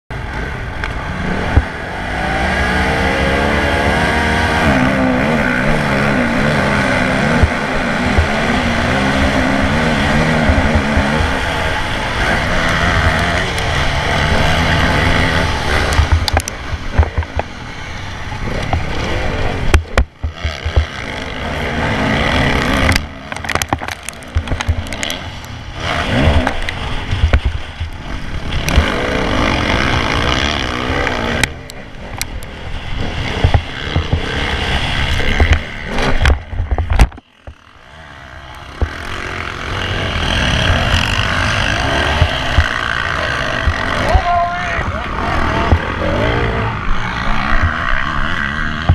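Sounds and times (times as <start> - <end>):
motocross bike engine revving: 0.1 - 48.9.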